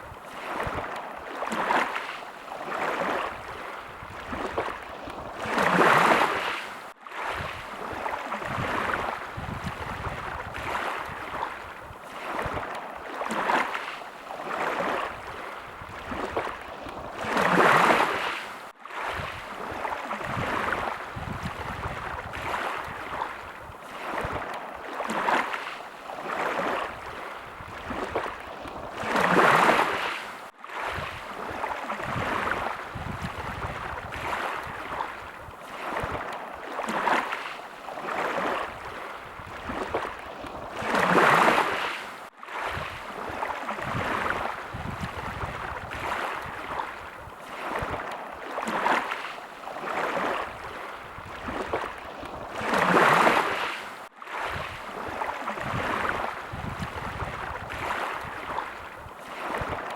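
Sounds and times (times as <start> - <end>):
bigger wave: 0.0 - 59.9
small sea waves washing in: 0.0 - 59.9.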